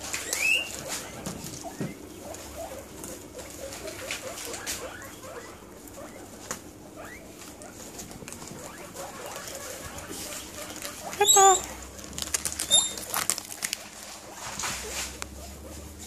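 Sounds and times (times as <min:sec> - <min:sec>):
guinea pig squeaks: 0:00.0 - 0:16.0
guinea pigs chewing lettuce: 0:00.0 - 0:16.0
rising guinea pig wheek: 0:00.0 - 0:16.0.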